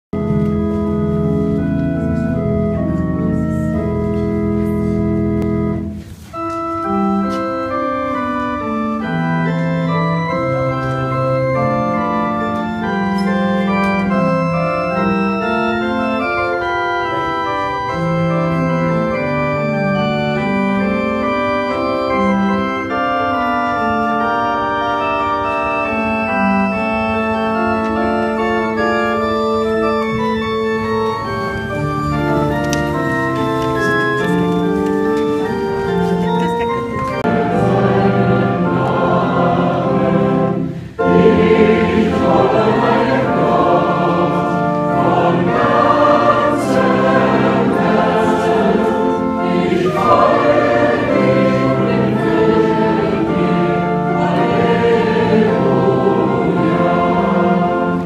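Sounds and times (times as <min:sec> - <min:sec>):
organ playing: 0:00.1 - 0:58.0.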